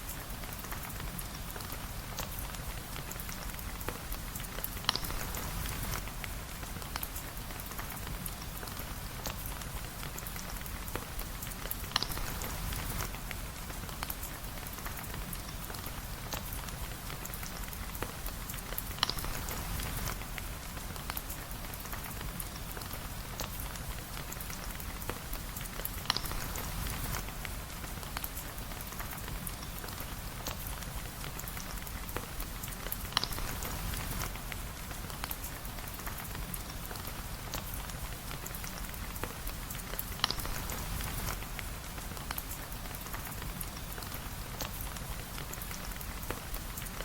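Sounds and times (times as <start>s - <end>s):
steady rain patter: 0.0s - 47.0s.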